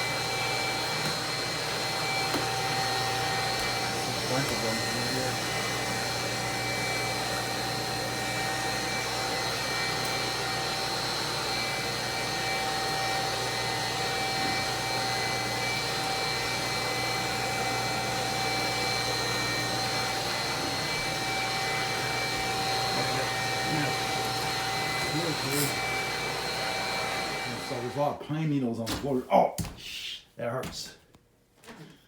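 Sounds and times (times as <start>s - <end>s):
vacuum cleaner running: 0.0s - 28.3s.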